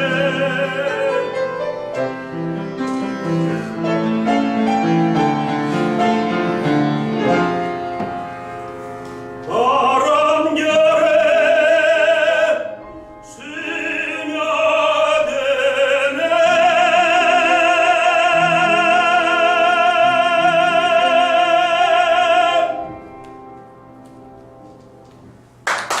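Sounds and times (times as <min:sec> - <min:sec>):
tenor singing: 0:00.0 - 0:07.7, 0:09.2 - 0:23.9
piano accompaniment: 0:00.0 - 0:26.0.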